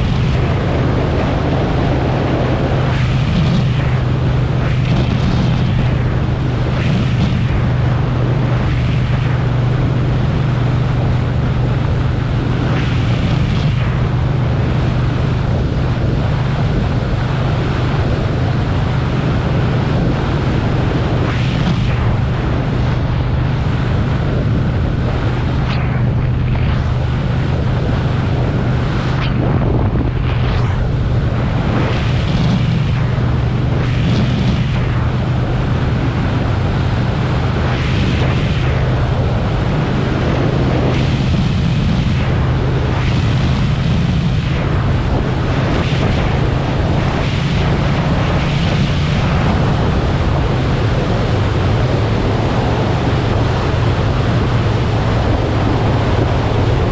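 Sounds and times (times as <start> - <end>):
motorcycle engine drone: 0.0 - 56.9
wind rush on microphone: 0.0 - 56.9.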